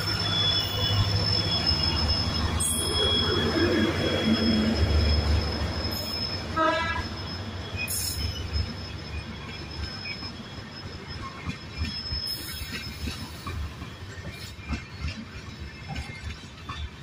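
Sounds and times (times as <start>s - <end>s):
low train rumble: 0.0s - 17.0s
train wheels squealing: 0.0s - 17.0s.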